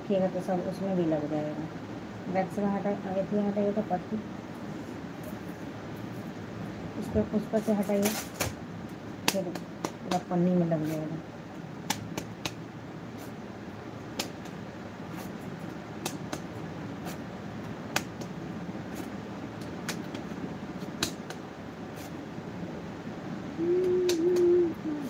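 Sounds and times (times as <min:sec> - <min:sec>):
ceiling fan humming: 0:00.0 - 0:25.0.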